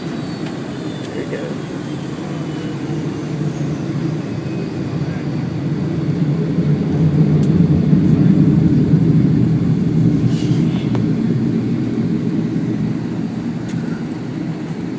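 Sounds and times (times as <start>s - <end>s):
jet engines deep rumble: 0.0s - 14.9s.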